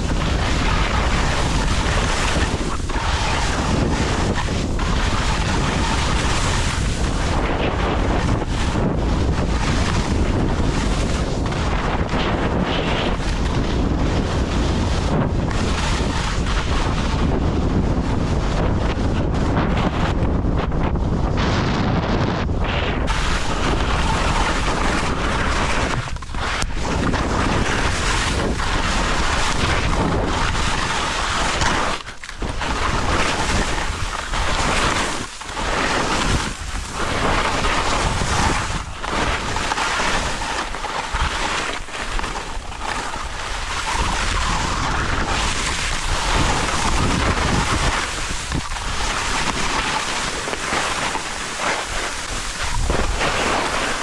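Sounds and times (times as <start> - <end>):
skis scraping across snow: 0.0 - 54.0
wind rushing over microphone: 0.0 - 54.0.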